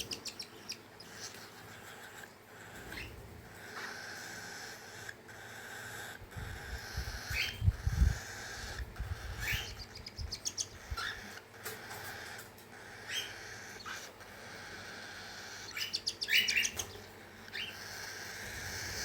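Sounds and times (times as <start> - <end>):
chicks raspy begging buzz: 0.0 - 19.0.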